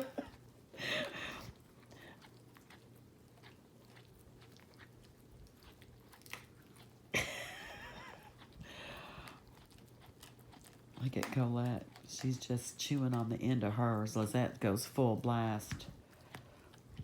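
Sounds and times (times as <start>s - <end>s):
dogs gnawing chew sticks: 0.0s - 17.0s.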